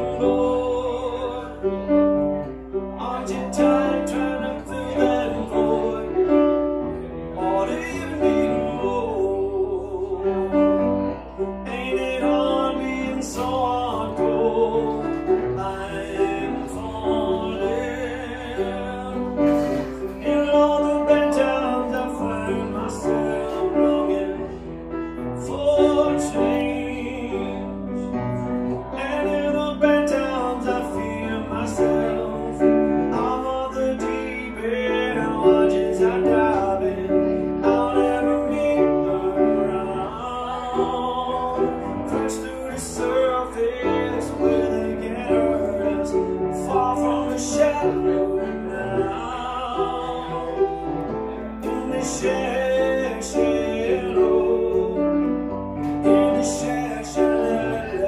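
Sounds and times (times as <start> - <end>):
grand piano playing: 0.0 - 58.0
person singing: 0.0 - 58.0.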